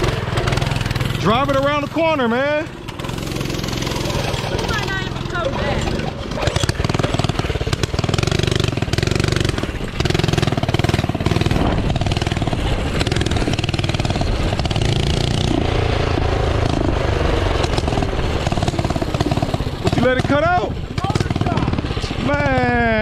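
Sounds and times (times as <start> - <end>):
small engine revving: 0.0 - 23.0.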